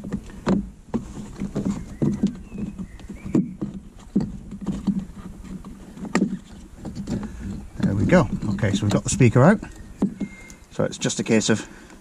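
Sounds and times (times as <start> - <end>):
plastic knocks and clunks: 0.0 - 10.4.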